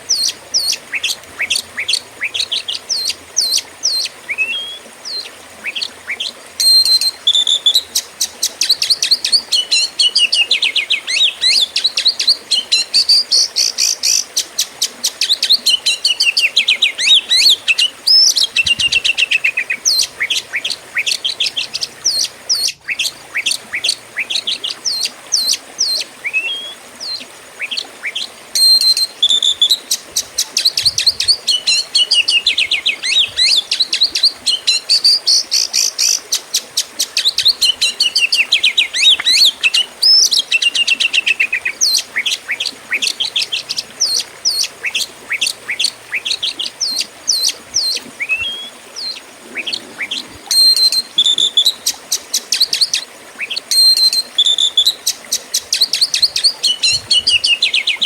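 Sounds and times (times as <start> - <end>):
bird singing whistles and trills: 0.1 - 14.2, 15.2 - 36.2, 37.0 - 58.0.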